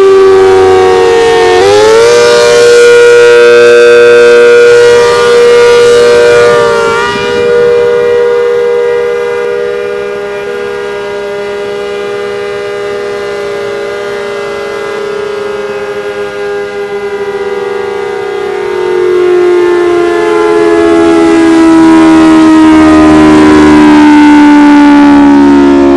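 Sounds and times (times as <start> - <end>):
warning siren chord: 0.0 - 25.9.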